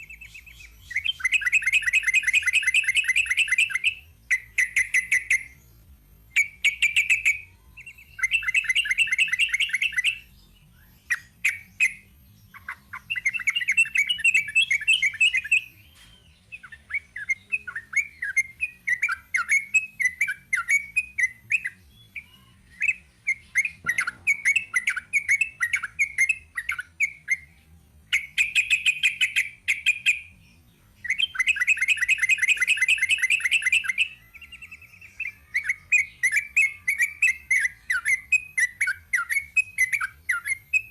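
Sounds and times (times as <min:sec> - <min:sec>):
bird chattering song: 0:00.0 - 0:05.7, 0:06.3 - 0:40.9.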